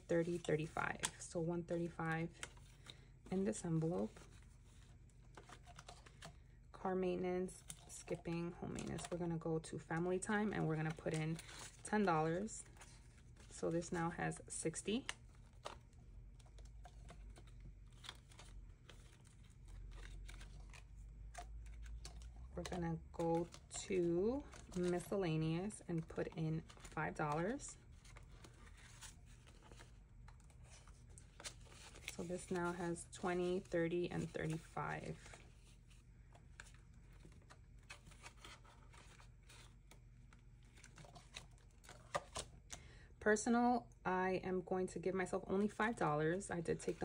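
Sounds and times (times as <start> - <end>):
plastic sleeves rustling: 0.0 - 43.0, 45.3 - 47.0
low steady hum: 0.0 - 47.0
paper bills handled: 0.1 - 6.6, 7.4 - 42.8.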